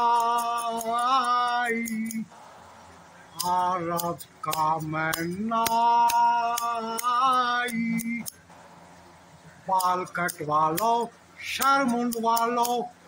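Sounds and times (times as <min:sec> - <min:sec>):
man singing chant-like: 0:00.0 - 0:02.3, 0:03.4 - 0:08.4, 0:09.6 - 0:13.0
sharp clicks: 0:00.0 - 0:12.9.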